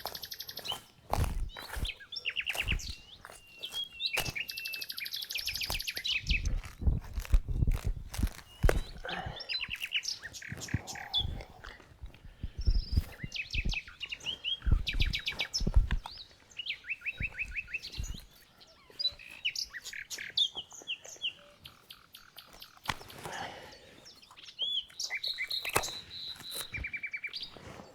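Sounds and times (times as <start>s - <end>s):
small birds singing: 0.0s - 27.9s.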